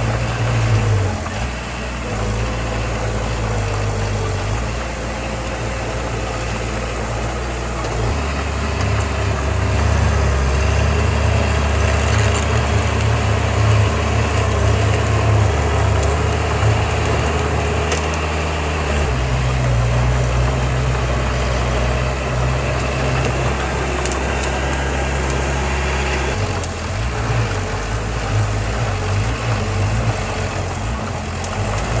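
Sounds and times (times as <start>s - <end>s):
diesel engine of heavy machinery: 0.0s - 32.0s.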